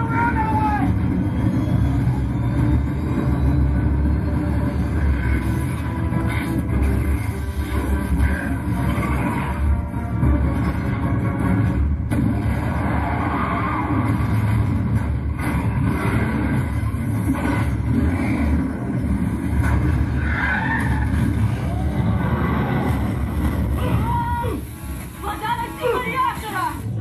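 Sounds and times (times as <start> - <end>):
heavy bass rumble: 0.0 - 25.1.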